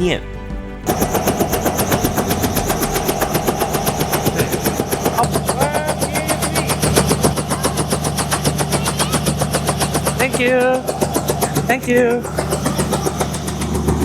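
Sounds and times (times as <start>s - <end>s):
helicopter engine running: 0.8s - 14.0s
helicopter rotor beating: 0.8s - 14.0s.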